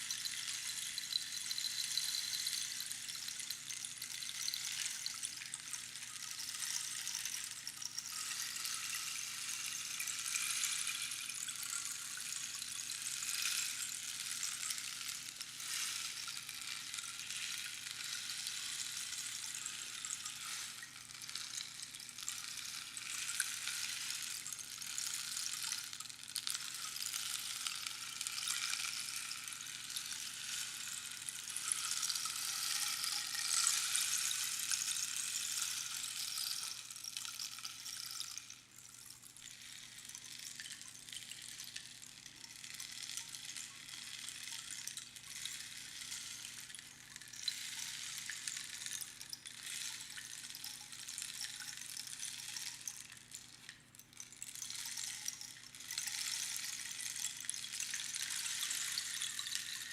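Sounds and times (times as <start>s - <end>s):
rainstick pebbles trickling: 0.0s - 59.9s.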